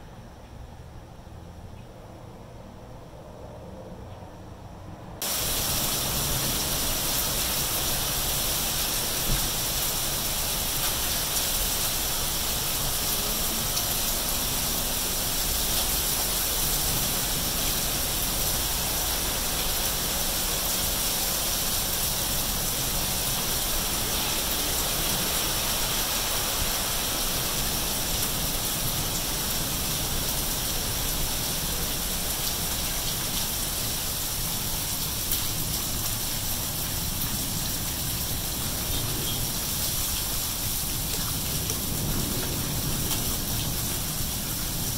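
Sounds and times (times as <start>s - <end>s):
rain falling on wet pavement: 5.2s - 44.9s.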